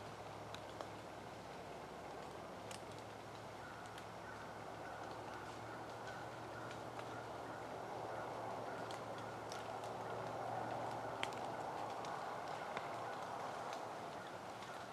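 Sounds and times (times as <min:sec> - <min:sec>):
faint outdoor background noise: 0:00.0 - 0:14.9
light sharp ticks: 0:00.4 - 0:07.3, 0:08.7 - 0:14.9.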